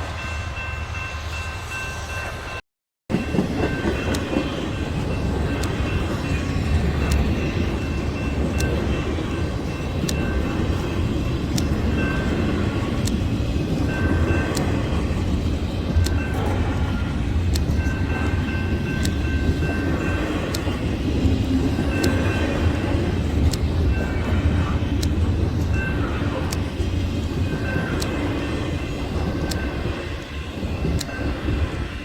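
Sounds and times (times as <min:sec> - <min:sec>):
train wheels rumbling on rail: 0:00.0 - 0:32.0
sharp clicks of train: 0:03.1 - 0:32.0.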